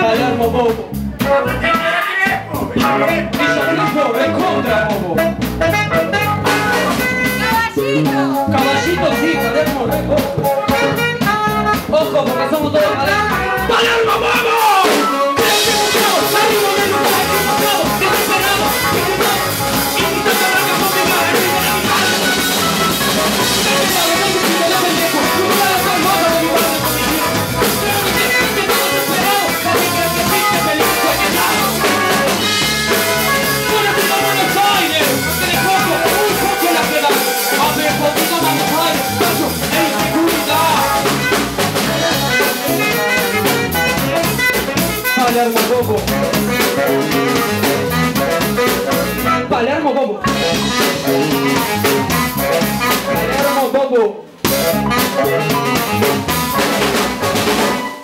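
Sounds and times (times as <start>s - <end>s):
drum kit: 0.0s - 49.4s, 50.2s - 53.7s, 54.4s - 58.0s
electric guitar: 0.0s - 49.6s, 50.2s - 53.6s, 54.3s - 58.0s
saxophone: 1.2s - 53.6s, 54.4s - 58.0s.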